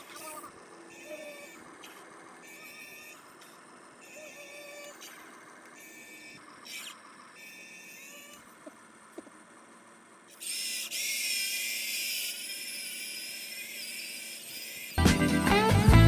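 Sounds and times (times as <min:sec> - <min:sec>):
toy excavator motors whining: 0:00.0 - 0:16.0.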